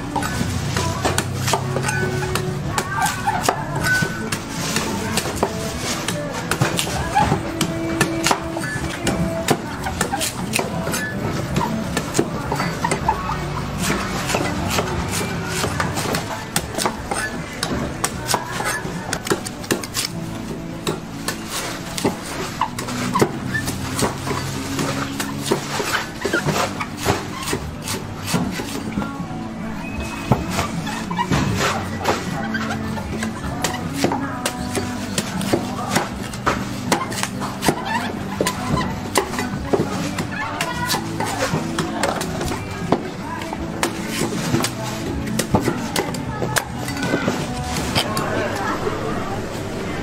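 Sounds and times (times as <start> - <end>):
background music with quick beat: 0.0 - 48.4
knife chopping coconut husk: 0.1 - 29.0, 30.3 - 48.6.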